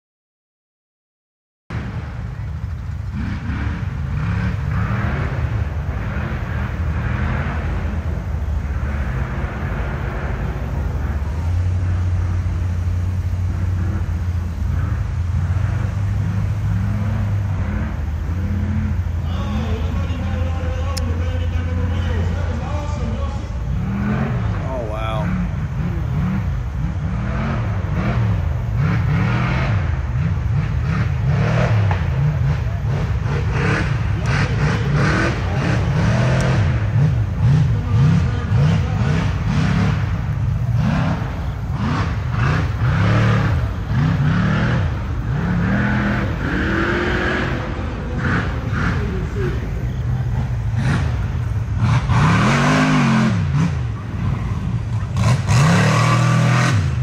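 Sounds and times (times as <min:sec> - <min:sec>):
buggy engine revving: 0:01.7 - 0:57.0.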